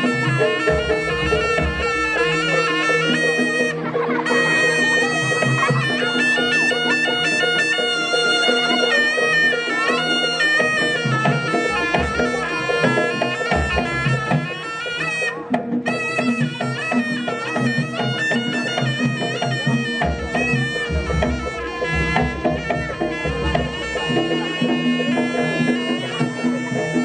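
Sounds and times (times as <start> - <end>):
drumming: 0.0 - 27.0
shrill reed shawm melody: 0.0 - 27.0.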